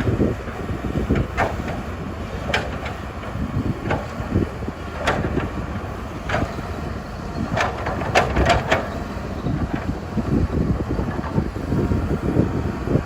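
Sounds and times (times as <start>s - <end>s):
excavator engine rumble: 0.0s - 13.0s.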